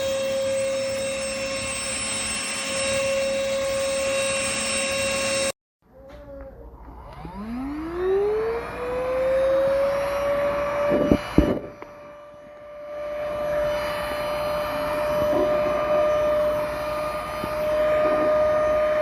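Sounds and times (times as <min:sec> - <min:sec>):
vacuum motor whine: 0:00.0 - 0:19.0.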